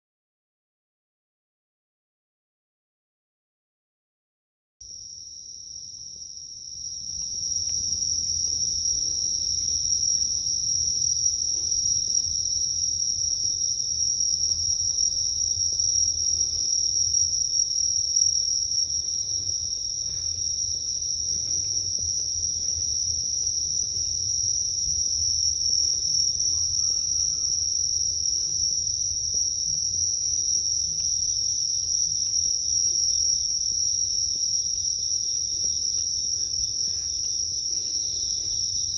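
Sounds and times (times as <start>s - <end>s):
insects trilling: 5.4s - 38.9s.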